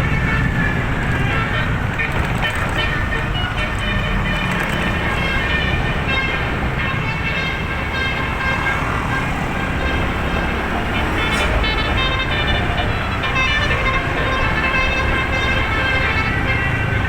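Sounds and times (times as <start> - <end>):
engine and road noise: 0.0 - 17.0
musical bus horn: 0.0 - 17.0.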